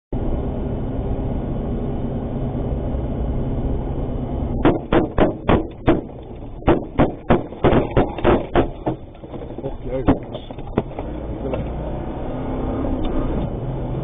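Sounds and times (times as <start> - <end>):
vehicle engine humming: 0.2 - 14.0.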